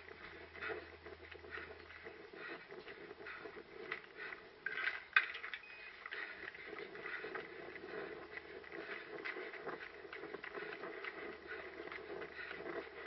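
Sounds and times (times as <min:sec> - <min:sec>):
footsteps on ground: 0:00.0 - 0:13.0.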